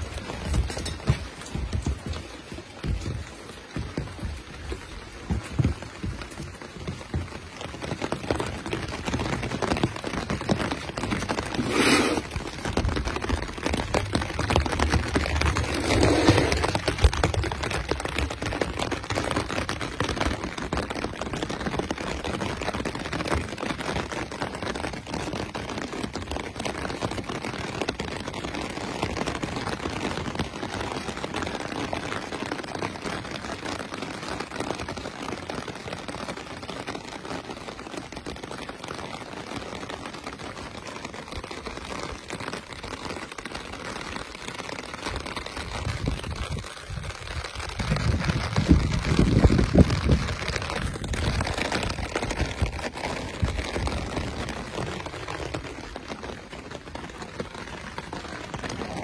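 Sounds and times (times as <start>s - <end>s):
heavy rain on umbrella: 0.0s - 59.0s.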